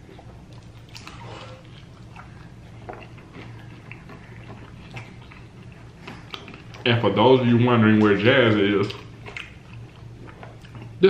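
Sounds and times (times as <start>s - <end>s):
steady low hum: 0.0s - 11.0s
chewing mouth clicks and smacks: 0.1s - 6.9s, 8.0s - 11.0s.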